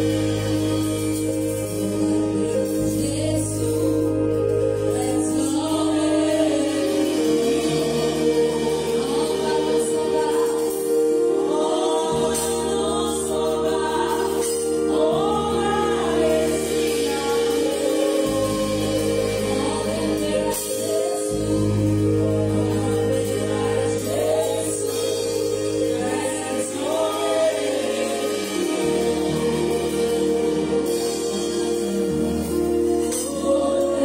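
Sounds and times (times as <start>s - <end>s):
electronic keyboard chords: 0.0s - 34.0s
woman singing worship song: 0.0s - 34.0s.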